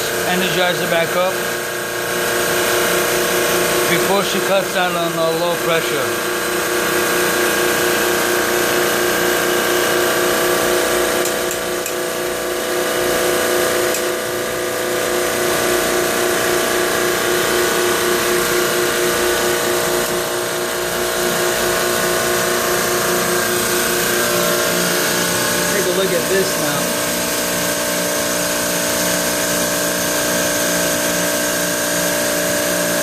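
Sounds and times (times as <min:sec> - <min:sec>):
refrigeration compressor humming: 0:00.0 - 0:33.0.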